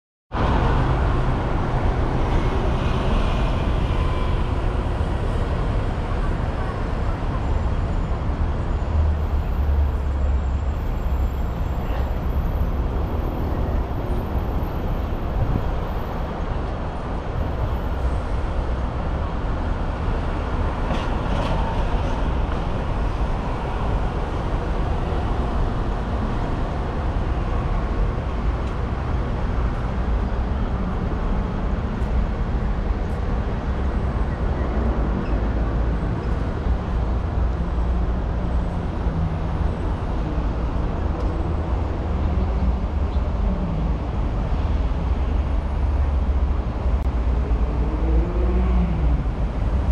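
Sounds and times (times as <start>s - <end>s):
traffic rumble on busy road: 0.3s - 49.9s.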